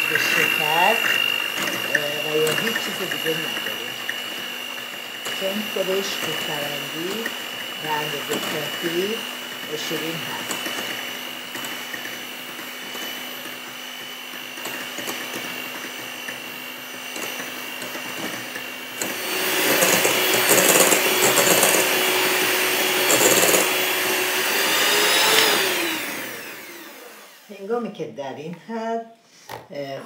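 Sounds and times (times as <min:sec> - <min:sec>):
electric hand mixer whirring: 0:00.0 - 0:27.8.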